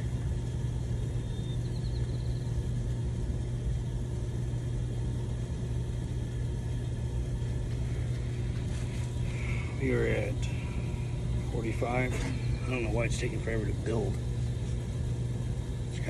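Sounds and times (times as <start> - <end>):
pump motor humming: 0.0 - 16.0.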